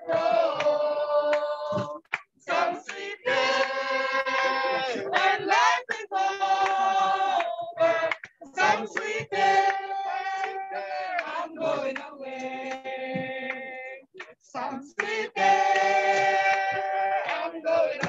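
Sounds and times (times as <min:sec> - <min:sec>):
group singing a hymn: 0:00.0 - 0:18.0.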